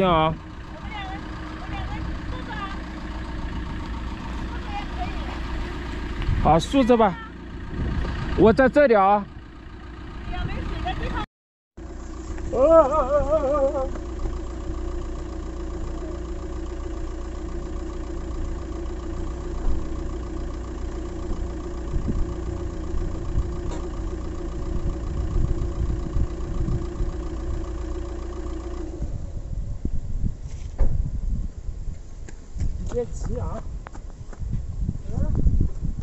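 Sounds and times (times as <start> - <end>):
low rumble: 0.0 - 36.0
vehicle engine idling: 0.0 - 36.0.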